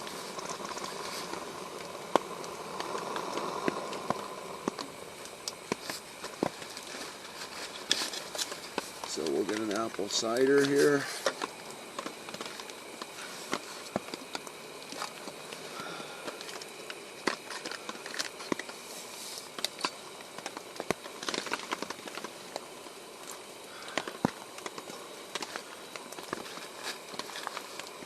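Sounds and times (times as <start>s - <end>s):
rain pattering on a tarp: 0.0s - 28.0s.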